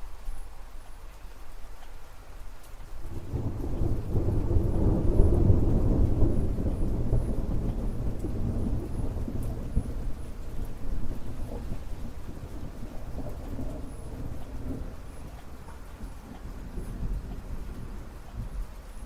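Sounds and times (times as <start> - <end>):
rain falling: 0.0 - 19.0
thunder rolling: 3.1 - 19.0.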